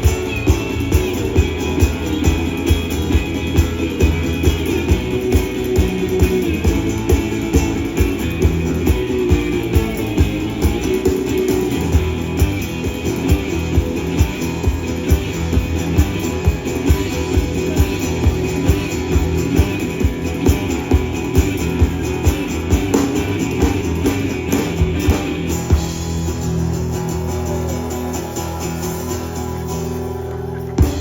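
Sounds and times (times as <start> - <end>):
blues band playing: 0.0 - 31.0
guitar: 0.0 - 31.0.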